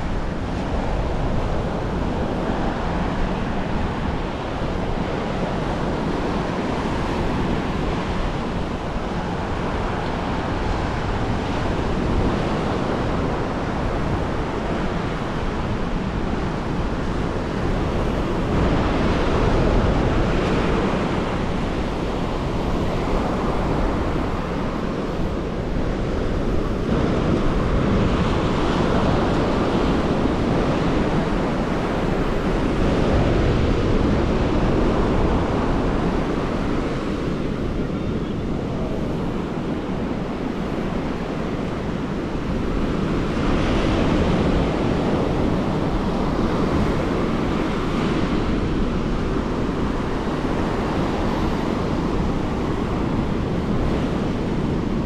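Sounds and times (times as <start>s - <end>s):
ocean surf breaking on beach: 0.0s - 55.0s
wind rumbling on microphone: 0.0s - 55.0s.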